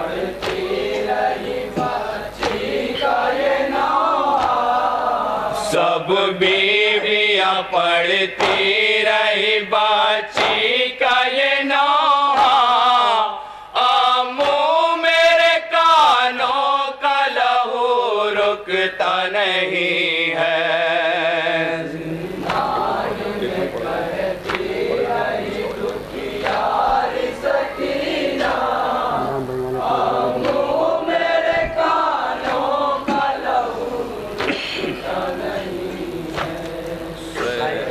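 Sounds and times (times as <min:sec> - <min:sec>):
men chanting a lament: 0:00.0 - 0:37.9.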